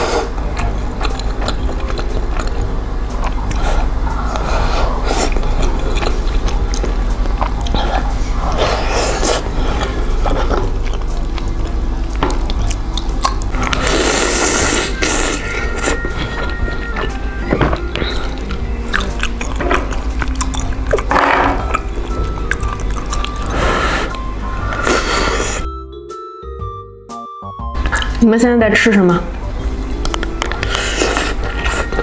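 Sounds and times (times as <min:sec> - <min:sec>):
close chewing: 0:00.0 - 0:25.7, 0:30.0 - 0:32.0.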